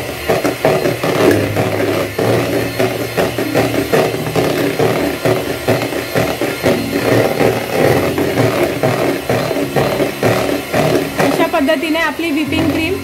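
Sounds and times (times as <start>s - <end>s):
electric hand mixer whipping cream: 0.0s - 13.0s.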